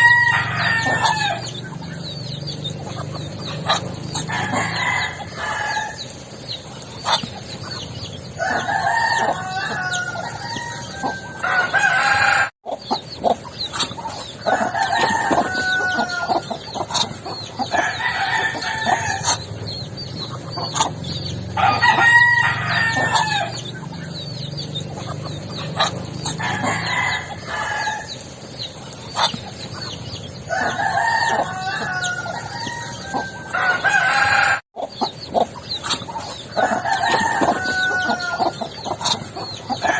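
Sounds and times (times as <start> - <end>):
poultry calling: 0.0 - 39.9.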